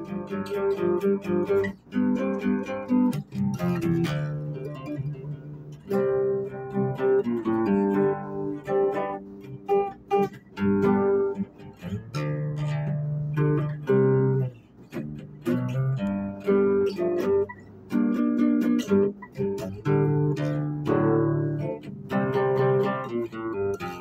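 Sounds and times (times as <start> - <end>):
guitar strummed and plucked: 0.0 - 24.0.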